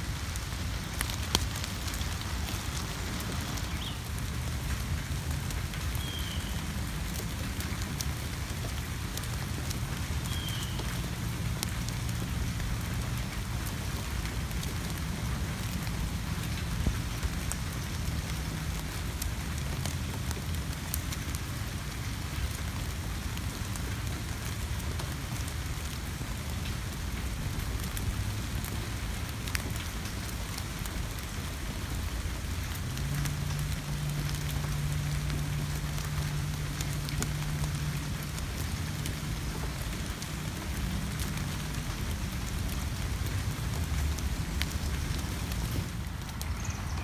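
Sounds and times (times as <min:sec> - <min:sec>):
rain patter on leaves: 0:00.0 - 0:47.0.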